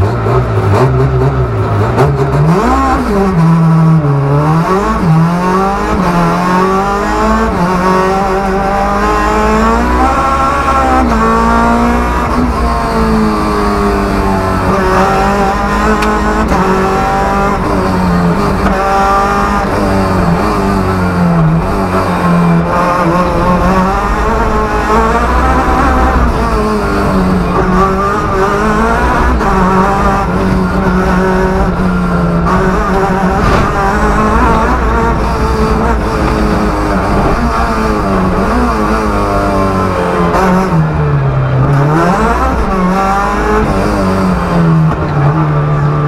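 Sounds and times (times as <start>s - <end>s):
rally car engine accelerating: 0.0s - 46.0s.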